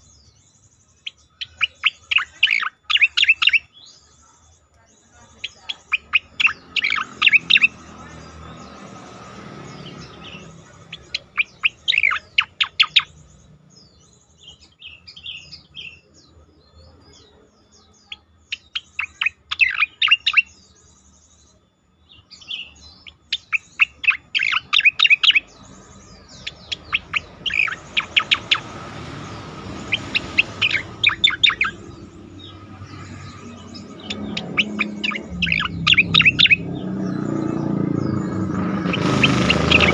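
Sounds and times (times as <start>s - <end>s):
bird singing rapid sharp notes: 0.0s - 39.9s.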